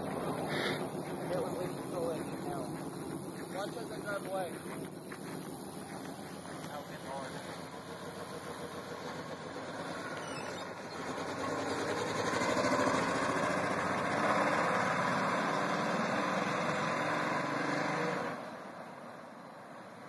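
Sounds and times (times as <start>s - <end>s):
misfiring truck engine: 0.0s - 18.4s.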